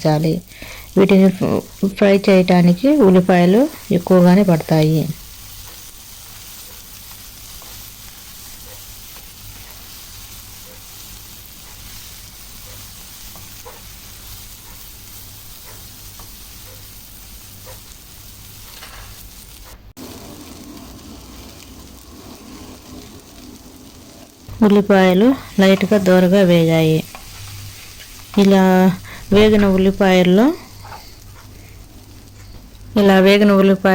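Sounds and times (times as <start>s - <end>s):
onions sizzling in a pan: 0.0s - 33.9s.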